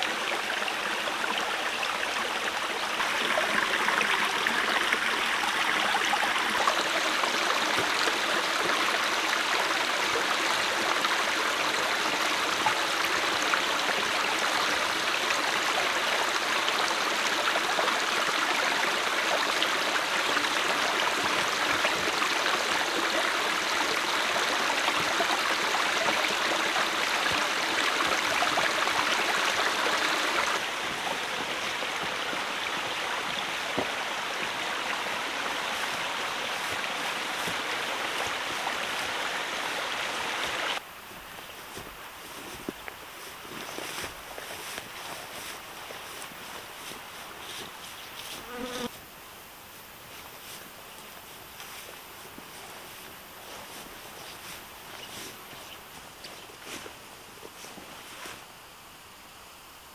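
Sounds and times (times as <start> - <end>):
stream trickling over stones: 0.0 - 48.9, 50.0 - 58.7.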